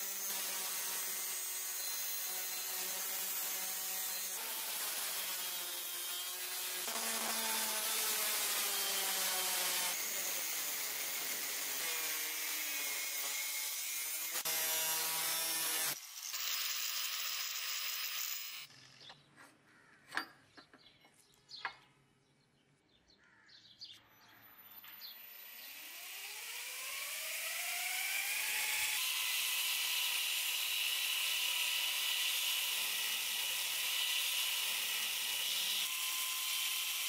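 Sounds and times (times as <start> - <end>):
angle grinder cutting steel: 0.0 - 18.7, 25.2 - 37.0.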